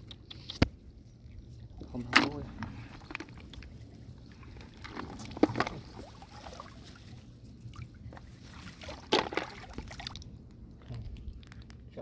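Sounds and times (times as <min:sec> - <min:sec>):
water sloshing and splashing: 0:00.0 - 0:11.9.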